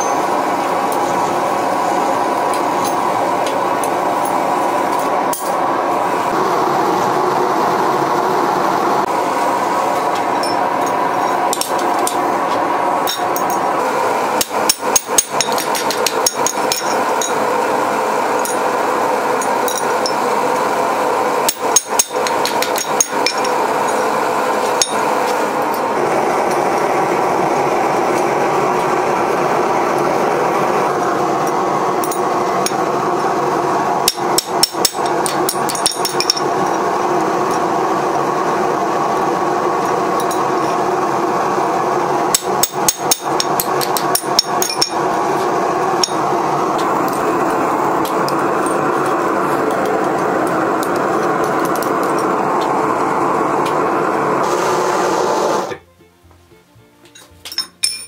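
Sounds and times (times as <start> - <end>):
gas forge burner rushing: 0.0 - 55.8.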